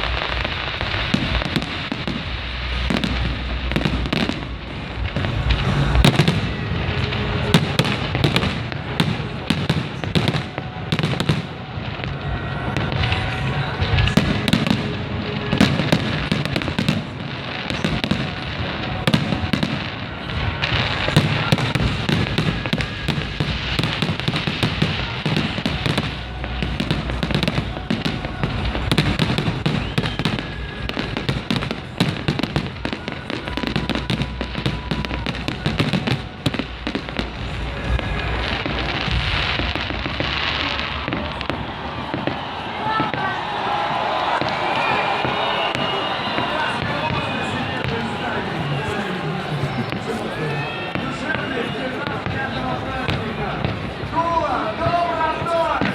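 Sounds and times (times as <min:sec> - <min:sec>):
fireworks bangs and crackling: 0:00.0 - 0:55.9
music playing: 0:00.0 - 0:55.9.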